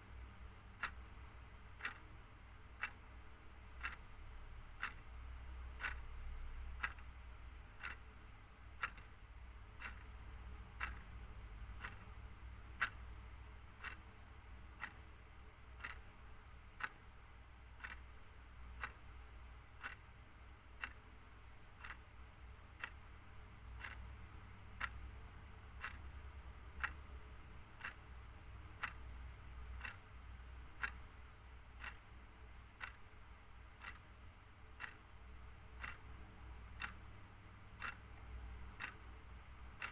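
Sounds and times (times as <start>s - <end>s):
clock ticking: 0.0s - 39.9s
faint low hum: 0.0s - 39.9s.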